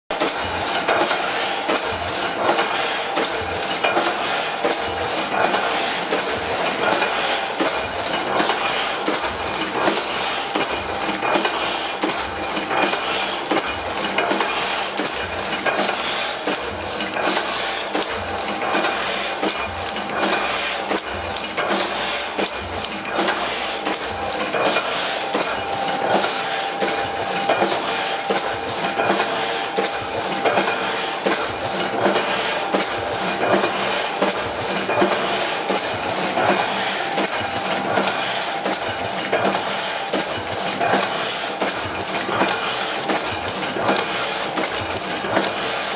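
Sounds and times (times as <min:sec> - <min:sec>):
printing press clattering: 0:00.1 - 0:45.9.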